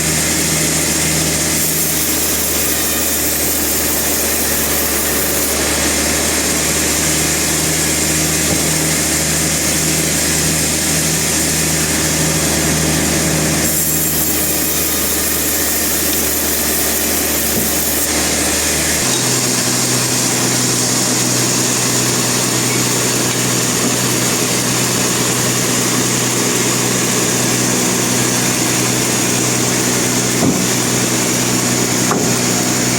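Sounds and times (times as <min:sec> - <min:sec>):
sawmill machinery humming: 0:00.0 - 0:32.9.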